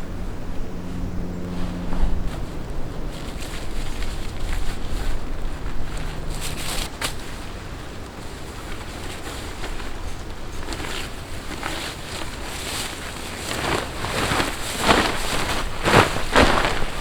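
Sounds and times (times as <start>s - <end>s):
wind blowing in gusts: 0.0s - 17.0s.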